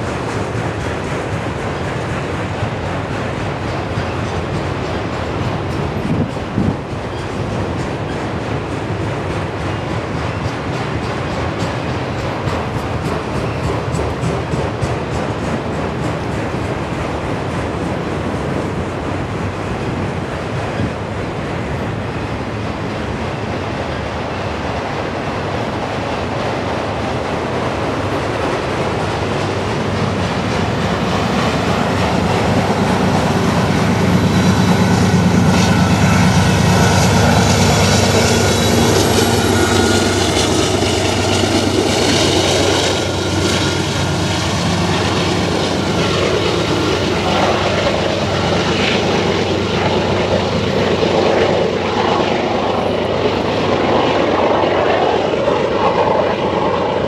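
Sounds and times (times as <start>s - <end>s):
diesel locomotive engine drone: 0.0s - 57.0s
freight cars wheel-on-rail rumble: 0.0s - 57.0s.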